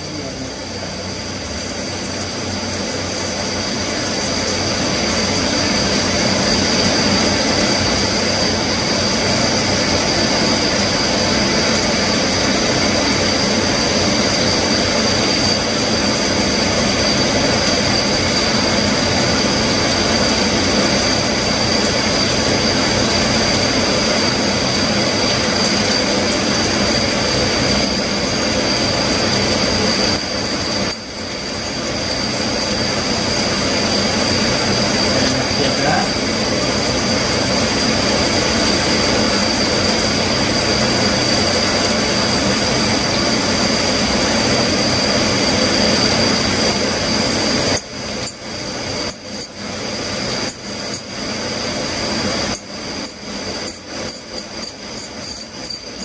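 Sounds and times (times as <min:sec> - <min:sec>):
milling machine high whine: 0:00.0 - 0:56.0
coolant hiss: 0:00.1 - 0:53.7.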